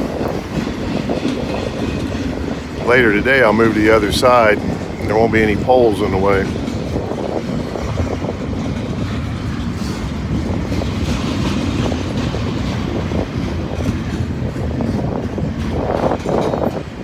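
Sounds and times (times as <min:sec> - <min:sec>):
freight train cars rolling: 0:00.0 - 0:17.0
wheels clicking over rail joints: 0:00.0 - 0:17.0.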